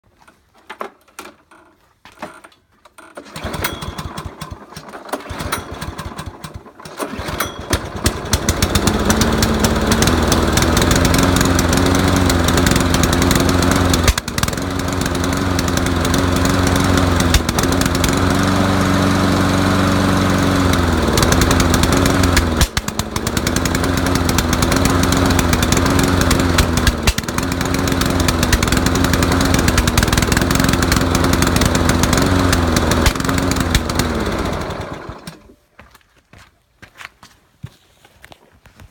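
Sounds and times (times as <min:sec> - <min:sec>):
lawnmower engine running unevenly: 0:03.1 - 0:35.6.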